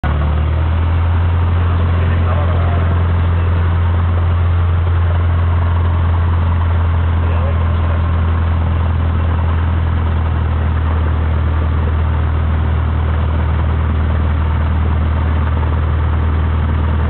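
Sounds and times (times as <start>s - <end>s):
aircraft engine droning: 0.0s - 17.0s.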